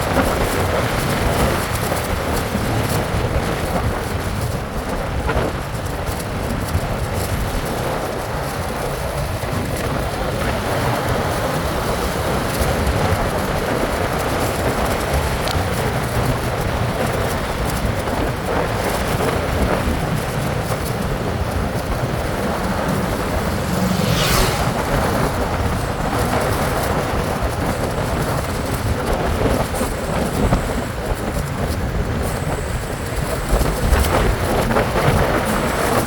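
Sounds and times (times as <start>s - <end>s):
road rumble: 0.0s - 36.0s
wind noise on microphone: 0.0s - 36.0s.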